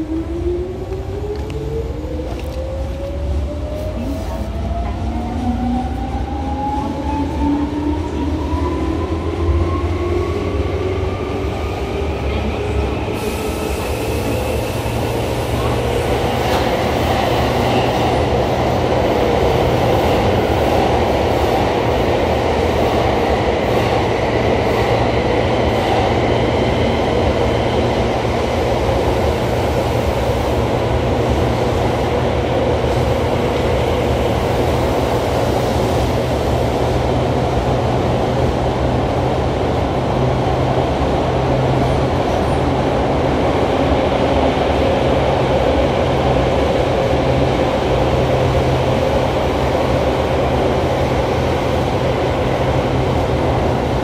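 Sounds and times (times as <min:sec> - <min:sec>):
electric train rumbling in tunnel: 0:00.0 - 0:54.0.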